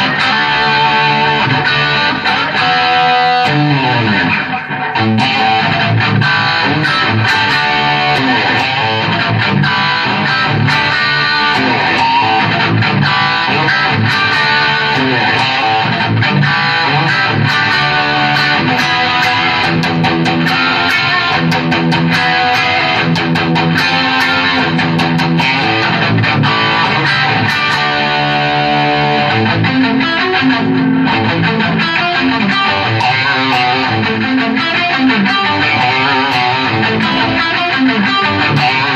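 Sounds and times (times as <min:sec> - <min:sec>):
overdriven electric guitar playing: 0:00.0 - 0:38.9.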